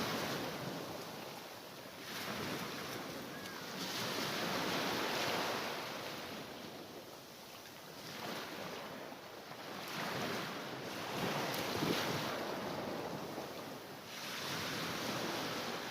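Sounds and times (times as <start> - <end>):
sea waves washing onto shore: 0.0 - 15.9.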